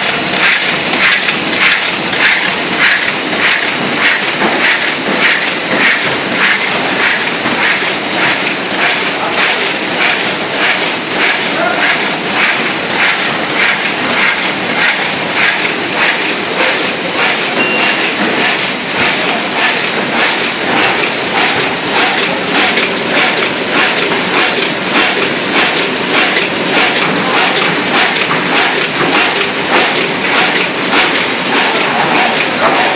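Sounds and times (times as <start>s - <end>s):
die-cutting machine clattering: 0.0s - 32.9s.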